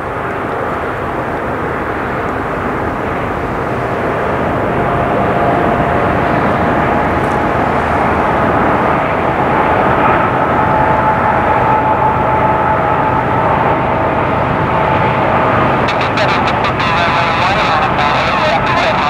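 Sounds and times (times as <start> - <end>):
jet engine whine: 0.0 - 19.0
jet engines roaring: 0.0 - 19.0.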